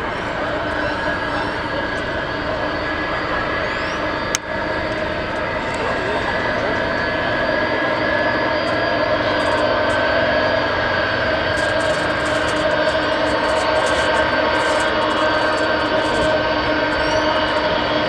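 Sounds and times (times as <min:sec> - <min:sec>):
jet engines whining and roaring: 0:00.0 - 0:18.0.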